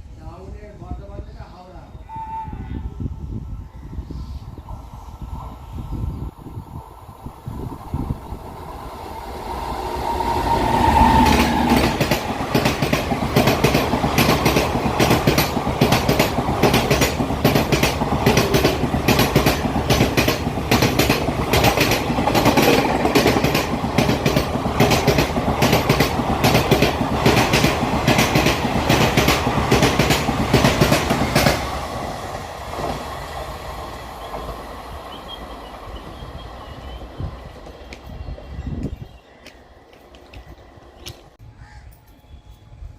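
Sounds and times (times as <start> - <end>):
train passing at high speed: 0.0 - 41.4.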